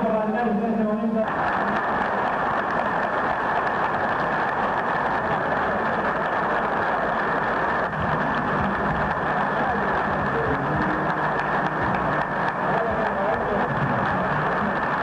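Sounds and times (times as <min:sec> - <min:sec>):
muffled audience applause: 0:01.1 - 0:15.0.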